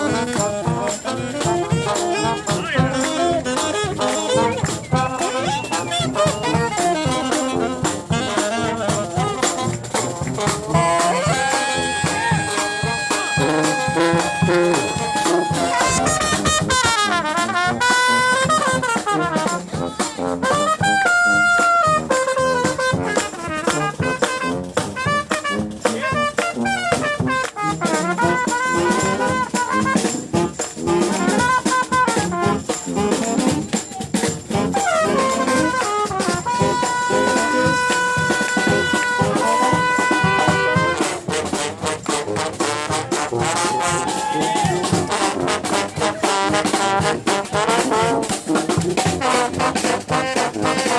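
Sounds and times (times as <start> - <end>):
brass band playing: 0.0 - 50.9
drums: 0.0 - 50.9.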